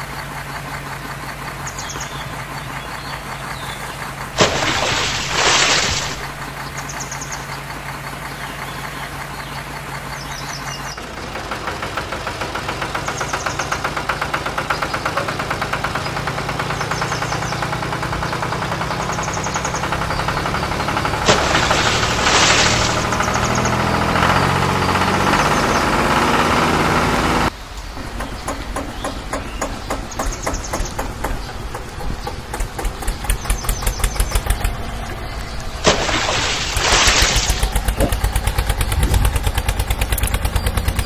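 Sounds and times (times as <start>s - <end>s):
heavy vehicle engine running: 0.0s - 41.0s.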